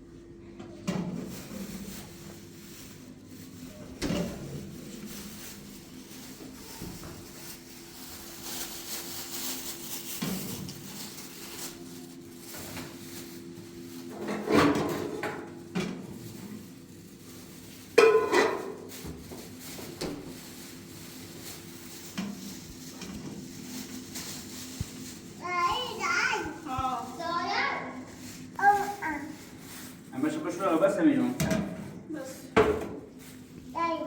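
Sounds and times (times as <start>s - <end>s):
objects clattering: 0.9s - 16.7s, 17.8s - 30.0s.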